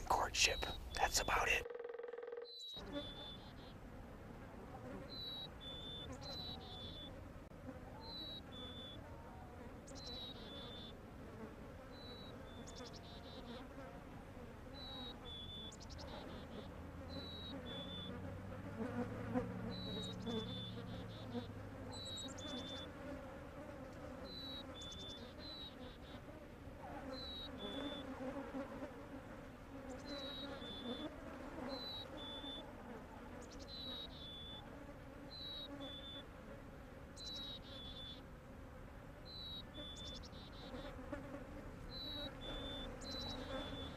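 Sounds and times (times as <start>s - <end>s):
flies buzzing: 0.0s - 43.9s.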